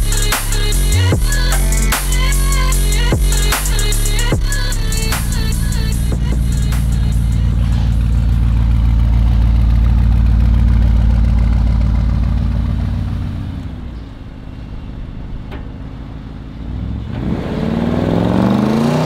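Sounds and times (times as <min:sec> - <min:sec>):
car engine rumbling and revving: 0:00.0 - 0:19.0.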